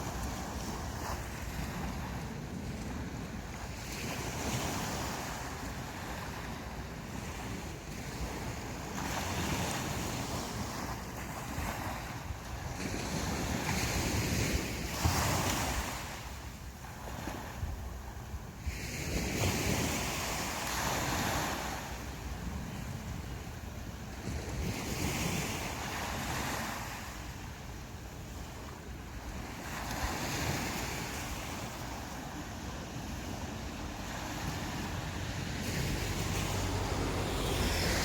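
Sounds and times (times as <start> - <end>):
sea waves breaking on beach: 0.0 - 38.0
wind rumbling on microphone: 0.0 - 38.0.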